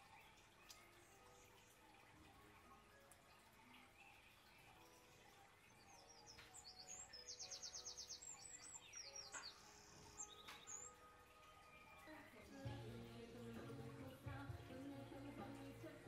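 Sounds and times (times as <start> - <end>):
quiet background music: 0.0 - 16.0
songbird chirping: 0.0 - 16.0.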